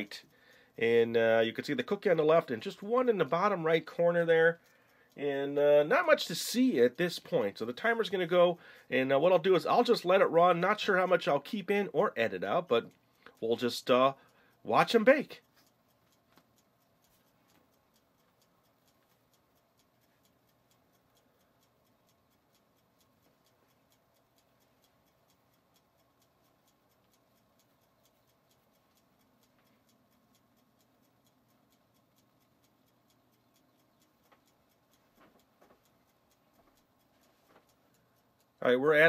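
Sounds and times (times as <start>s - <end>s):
kitchen timer ticking: 0.0s - 39.0s.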